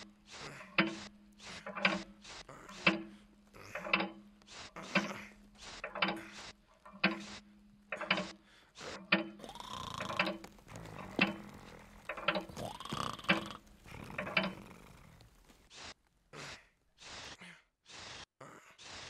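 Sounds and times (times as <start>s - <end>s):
clock ticking: 0.0s - 15.5s.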